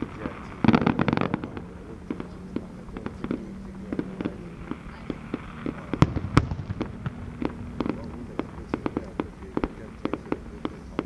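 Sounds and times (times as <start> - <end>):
fireworks popping: 0.0 - 11.0
loud firework bangs: 0.0 - 11.0.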